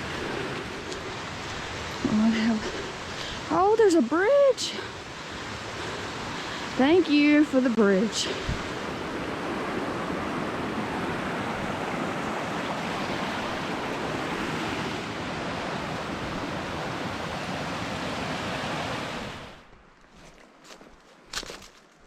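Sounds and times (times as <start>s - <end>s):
creek water rushing: 0.0s - 19.8s.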